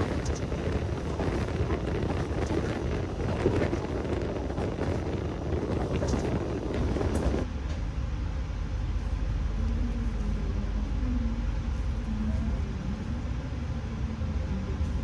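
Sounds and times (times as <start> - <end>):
low train rumble: 0.0 - 15.0
train wind and rolling noise: 0.0 - 15.0.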